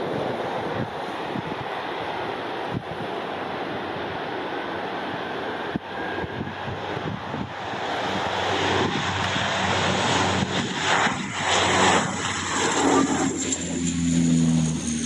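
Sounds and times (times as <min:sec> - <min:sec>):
turboprop plane taking off: 0:00.0 - 0:15.0.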